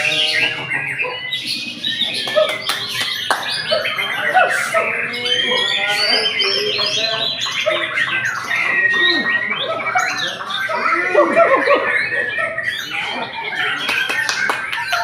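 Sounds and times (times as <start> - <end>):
other songbirds singing: 0.0 - 15.0
people's voices: 0.0 - 15.0.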